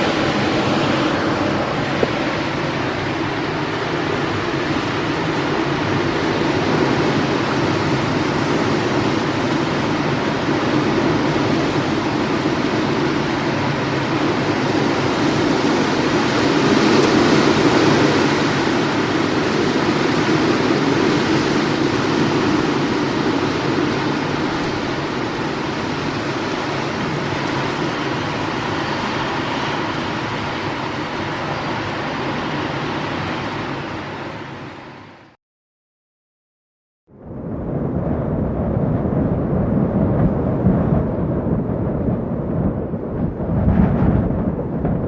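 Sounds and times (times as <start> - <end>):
wind rushing: 0.0 - 34.8, 37.1 - 45.0.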